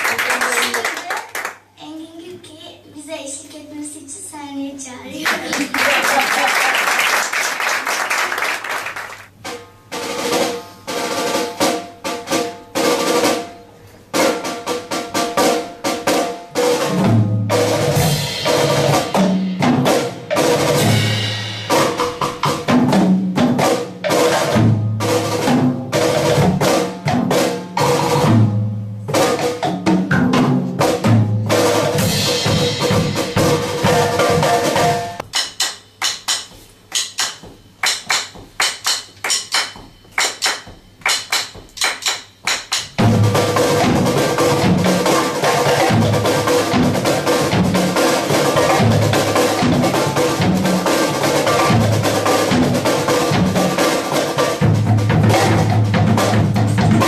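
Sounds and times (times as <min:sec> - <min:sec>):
drum kit: 0:05.3 - 0:57.0.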